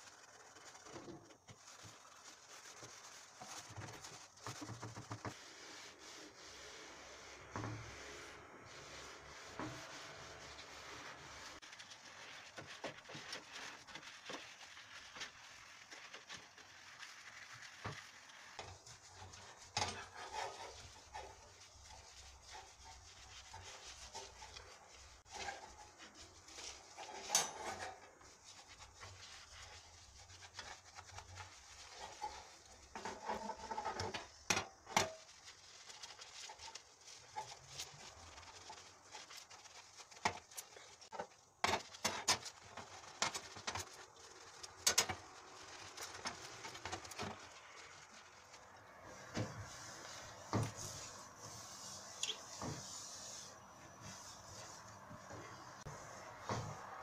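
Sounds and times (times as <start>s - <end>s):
sponge scrubbing a hob: 0.0s - 57.0s.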